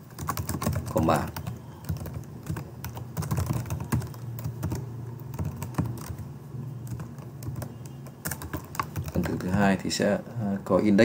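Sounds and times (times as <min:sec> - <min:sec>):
keyboard typing clicks: 0:00.1 - 0:09.6.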